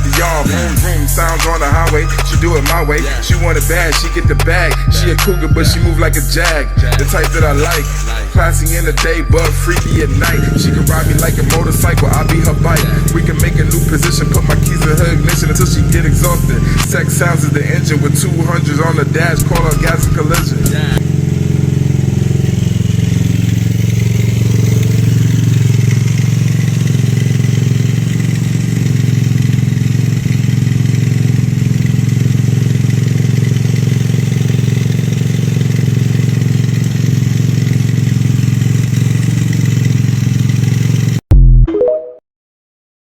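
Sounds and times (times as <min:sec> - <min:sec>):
motorcycle engine idling: 0:00.0 - 0:41.2.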